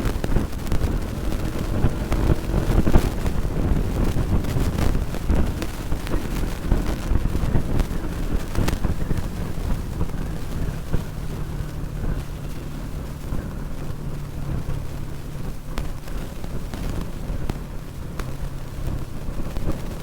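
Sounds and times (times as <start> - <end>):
motorcycle engine at high speed: 0.0 - 20.0
wind buffeting microphone: 0.0 - 20.0.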